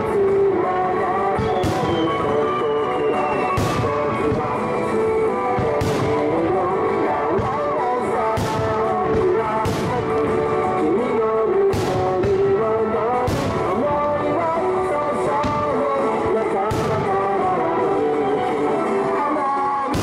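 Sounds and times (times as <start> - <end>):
rock song with singer: 0.0 - 20.0.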